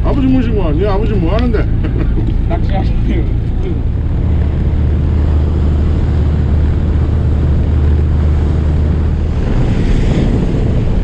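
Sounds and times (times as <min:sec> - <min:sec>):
boat engine drone: 0:00.0 - 0:11.0
wind on microphone: 0:00.0 - 0:11.0.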